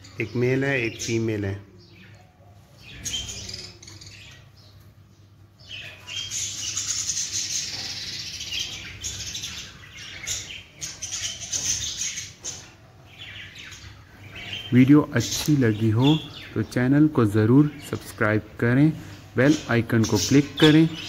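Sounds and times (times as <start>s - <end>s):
budgerigars chirping and trilling: 0.0s - 21.0s.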